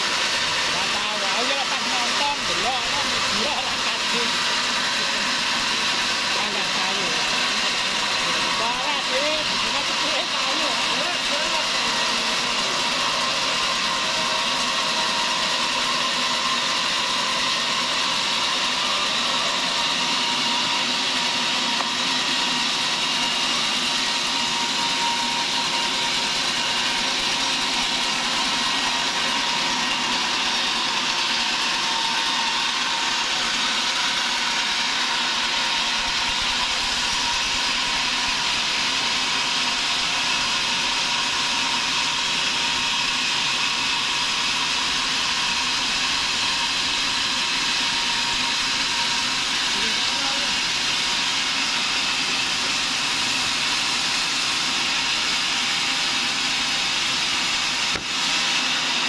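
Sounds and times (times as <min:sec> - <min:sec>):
band saw cutting log: 0:00.0 - 0:59.0
machine running: 0:00.0 - 0:59.0.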